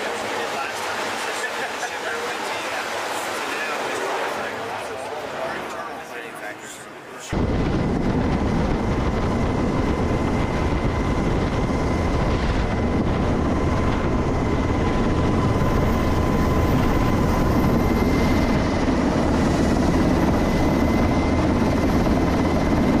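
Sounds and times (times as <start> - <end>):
aircraft engines roaring: 0.0 - 23.0.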